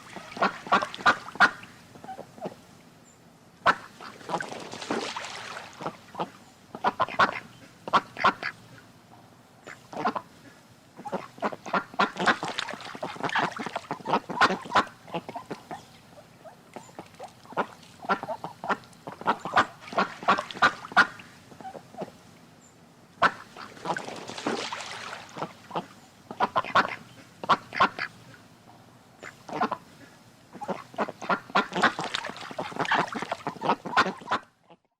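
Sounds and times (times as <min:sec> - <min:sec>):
ducks quacking: 0:00.0 - 0:02.6, 0:03.6 - 0:08.8, 0:09.6 - 0:22.2, 0:23.2 - 0:28.2, 0:29.2 - 0:34.9.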